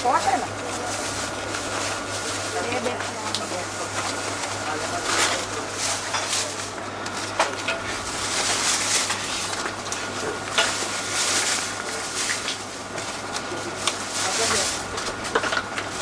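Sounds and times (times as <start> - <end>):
plastic bag rustling: 0.0 - 16.0.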